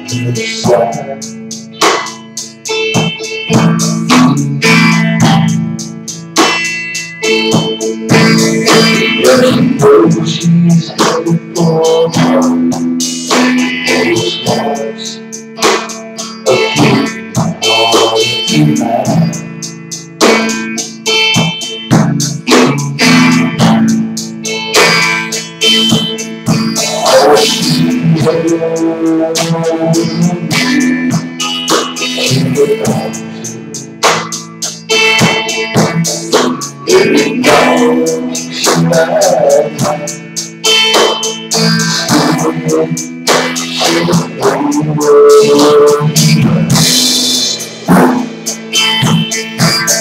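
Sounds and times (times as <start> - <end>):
guitar strumming chords: 0.0 - 50.0.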